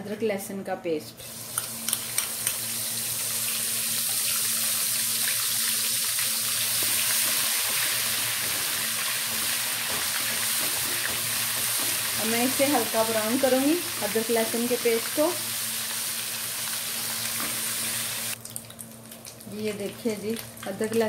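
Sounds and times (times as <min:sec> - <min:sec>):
paste sizzling in hot oil: 0:01.3 - 0:18.4.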